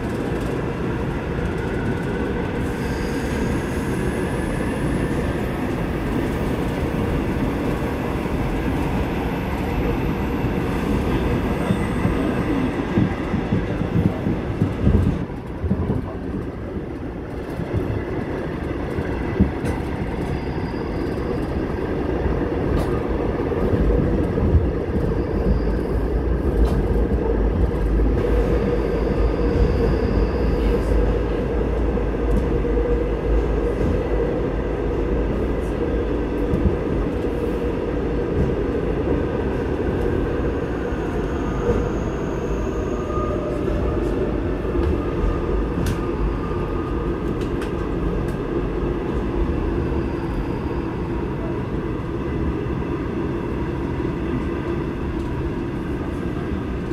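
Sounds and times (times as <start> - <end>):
subway train rumbling in tunnel: 0.0 - 56.9.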